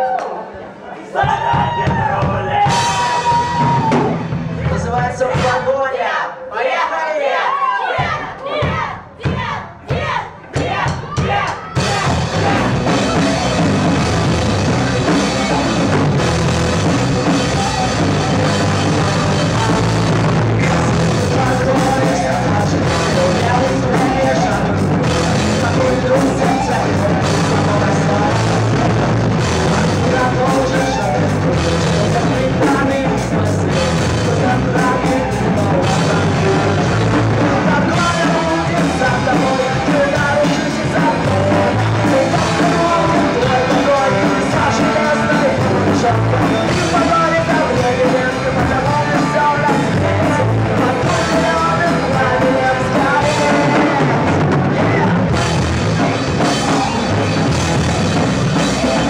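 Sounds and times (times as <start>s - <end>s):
rock band playing live: 1.2s - 5.9s, 10.4s - 59.0s
drum kit: 1.2s - 6.0s, 8.0s - 59.0s.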